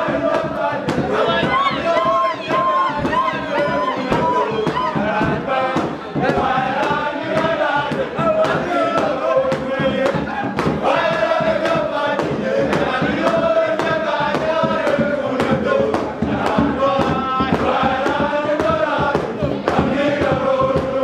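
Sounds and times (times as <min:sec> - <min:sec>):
group singing and chanting: 0:00.0 - 0:21.0
steady sharp beat: 0:00.0 - 0:21.0.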